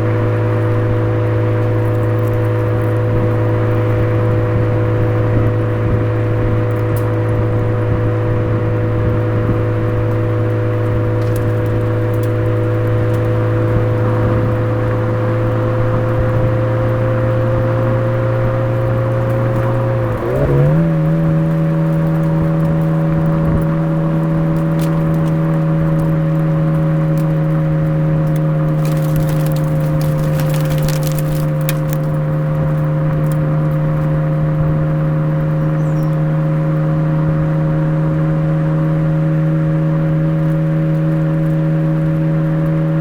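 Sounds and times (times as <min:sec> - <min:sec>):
car engine droning: 0:00.0 - 0:43.0
exhaust crackles: 0:00.0 - 0:43.0.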